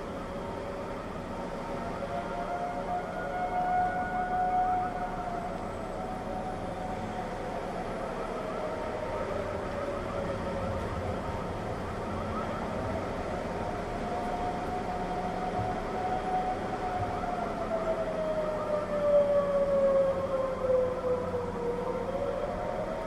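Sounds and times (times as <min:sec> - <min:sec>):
tornado warning sirens wailing: 0:00.0 - 0:23.0.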